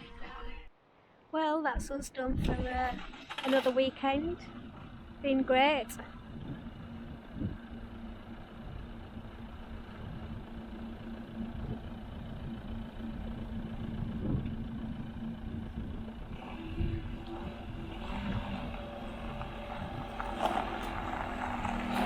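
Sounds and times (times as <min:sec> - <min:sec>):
motorhome engine rumbling: 0:01.8 - 0:22.0.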